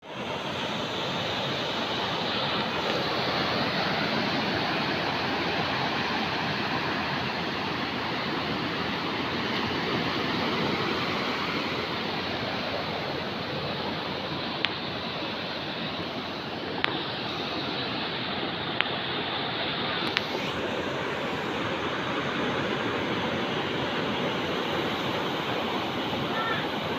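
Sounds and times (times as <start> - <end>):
waves breaking on a beach: 0.0 - 26.9.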